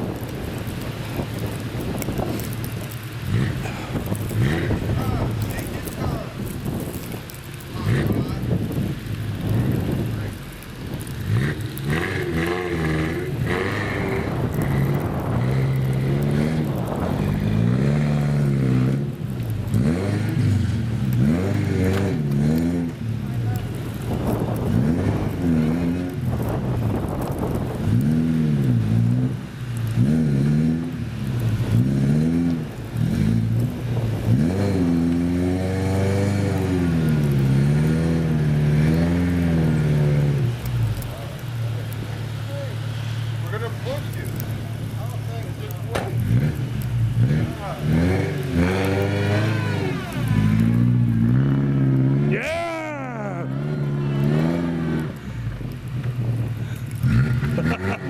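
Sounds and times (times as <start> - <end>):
car engine revving: 0.0 - 58.0
wheels spinning in snow: 0.0 - 58.0.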